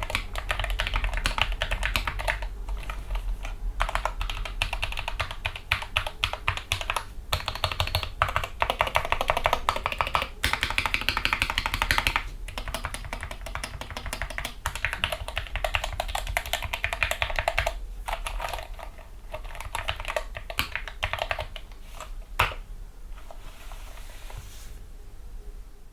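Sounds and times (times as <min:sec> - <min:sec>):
keyboard typing: 0:00.0 - 0:22.6.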